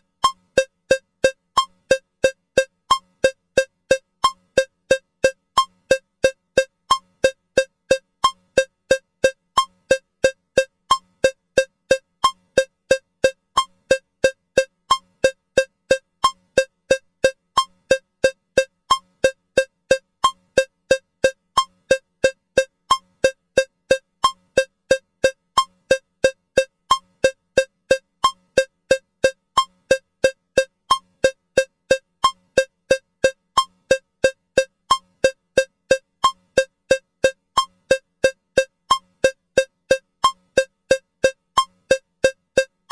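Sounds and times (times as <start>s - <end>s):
cowbell metronome ticking: 0.0s - 42.9s.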